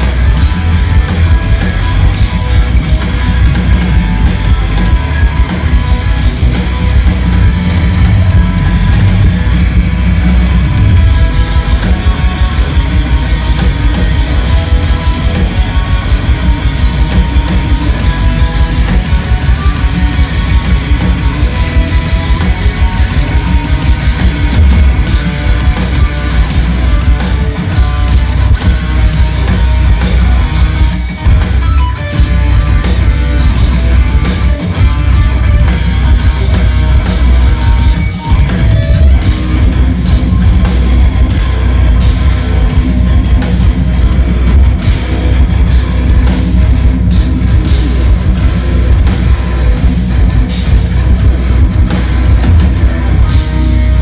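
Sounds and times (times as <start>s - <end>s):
busy drum kit: 0.0s - 54.0s
electric guitars playing fast: 0.0s - 54.0s.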